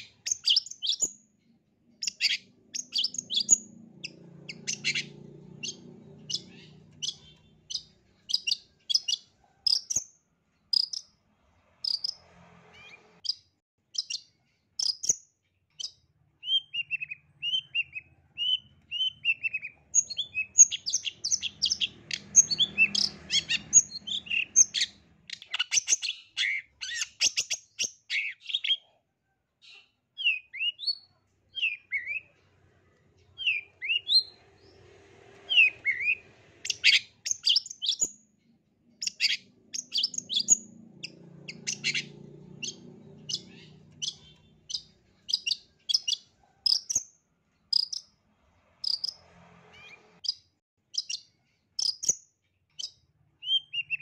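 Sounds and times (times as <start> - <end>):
bird singing high chirps: 0.0 - 10.1, 10.7 - 11.2, 11.8 - 28.9, 29.6 - 32.4, 33.2 - 34.8, 35.5 - 38.3, 39.0 - 47.1, 47.7 - 48.2, 48.8 - 54.0.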